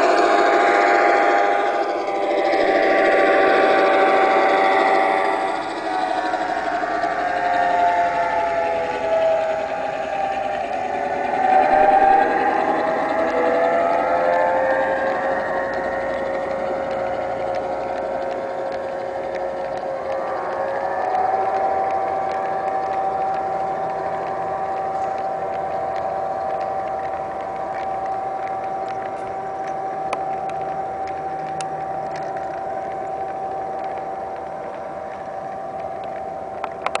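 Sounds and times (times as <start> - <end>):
model train diesel engine drone: 0.0 - 37.0
wheels ticking over track: 0.0 - 37.0.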